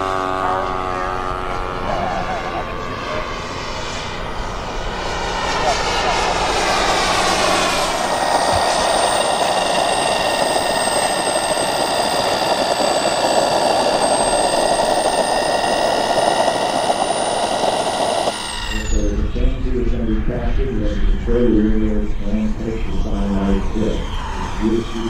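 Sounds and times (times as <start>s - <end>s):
model aircraft engine whining: 0.0s - 25.0s.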